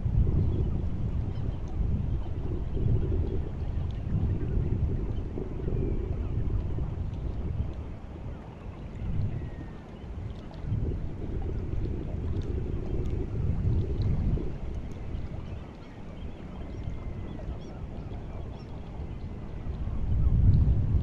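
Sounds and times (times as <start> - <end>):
sea water washing at shore: 0.0 - 21.0
wind on microphone: 0.0 - 21.0.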